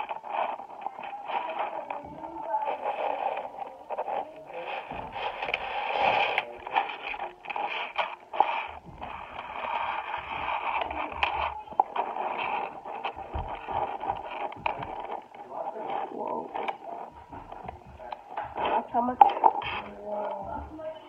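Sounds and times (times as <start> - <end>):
magnetic balls clicking: 0.0 - 21.0
muffled tinny background sound: 0.0 - 21.0.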